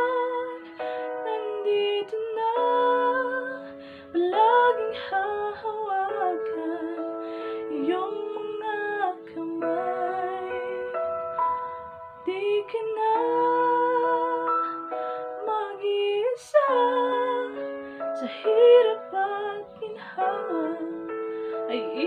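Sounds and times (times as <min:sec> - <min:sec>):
woman singing: 0:00.0 - 0:11.4, 0:12.2 - 0:22.0
musical accompaniment: 0:00.0 - 0:22.0.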